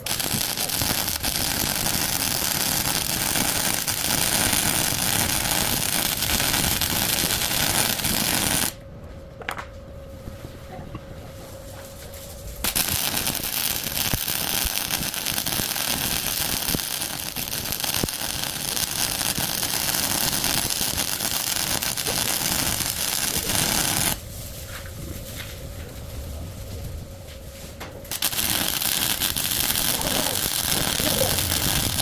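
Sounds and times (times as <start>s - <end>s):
arc welding crackling hiss: 0.0s - 8.8s, 12.6s - 26.7s, 28.0s - 32.0s.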